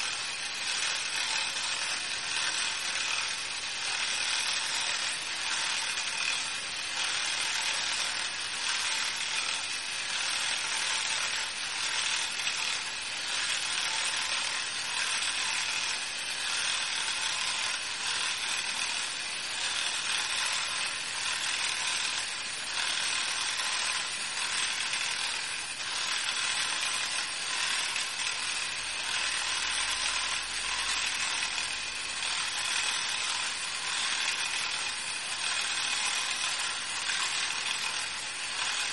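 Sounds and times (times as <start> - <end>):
electric motor whirring through gears: 0.0 - 38.9.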